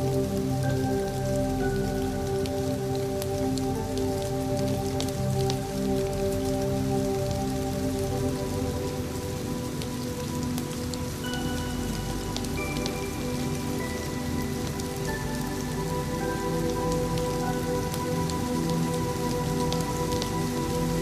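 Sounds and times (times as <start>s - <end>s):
rain falling: 0.0s - 21.0s
soft ambient music: 0.0s - 21.0s.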